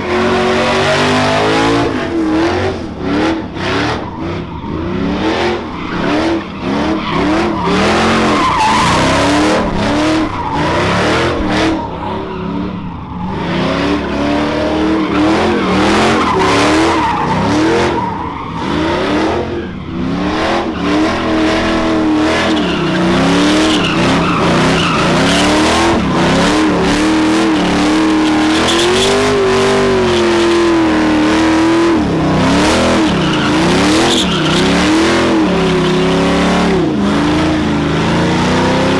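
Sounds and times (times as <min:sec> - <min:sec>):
tyres squealing: 0:00.0 - 0:37.0
truck engine revving: 0:00.0 - 0:38.9.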